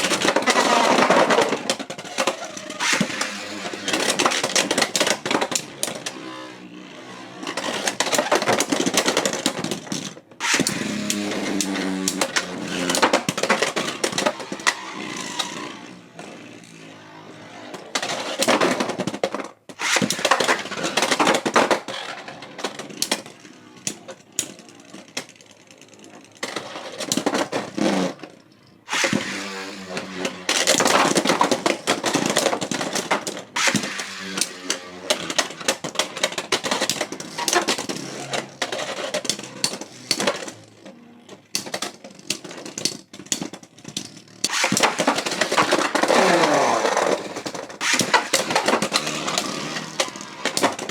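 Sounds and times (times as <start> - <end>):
grinding whir: 0.0 - 9.2, 9.8 - 19.0, 19.8 - 41.7, 43.9 - 50.9.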